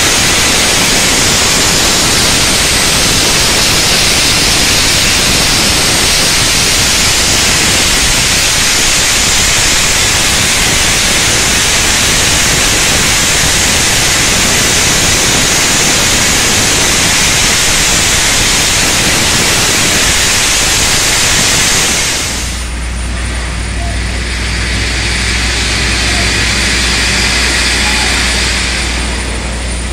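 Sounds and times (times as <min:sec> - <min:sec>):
steady hiss of noise: 0:00.0 - 0:29.9.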